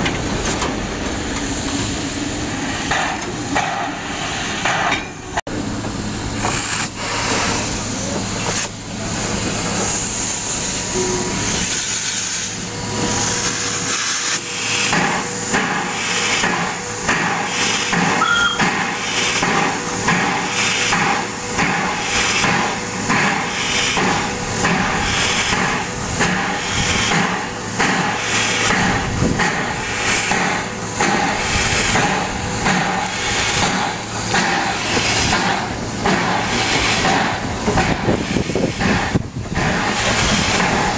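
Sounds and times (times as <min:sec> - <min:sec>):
steam engines hissing: 0:00.0 - 0:40.9
steam exhaust chuffs: 0:00.0 - 0:40.9.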